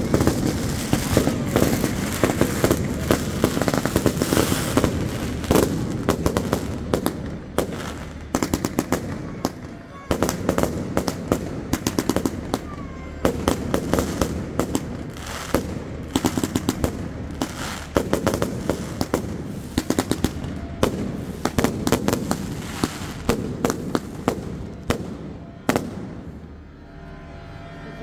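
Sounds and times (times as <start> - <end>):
fireworks cracking and banging: 0.0 - 26.6.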